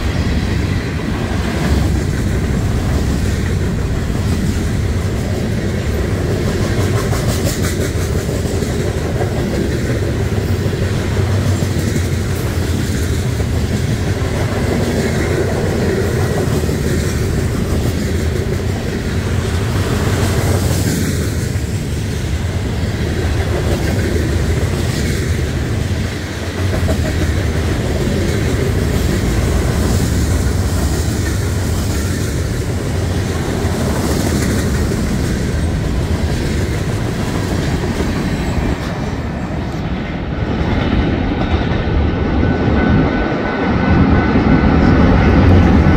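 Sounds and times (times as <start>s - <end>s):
clickety-clack over rail joints: 0.0s - 45.9s
train wheels rumbling on rails: 0.0s - 45.9s.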